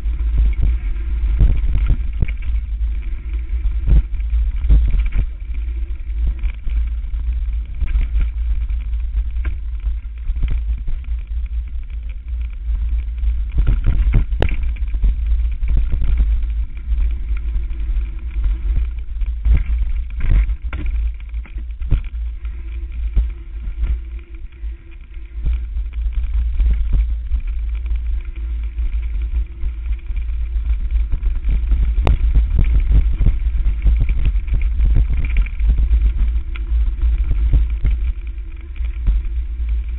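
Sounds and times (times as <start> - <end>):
bike knocking and rattling: 0.0 - 39.9
wind rumble on microphone: 0.0 - 39.9.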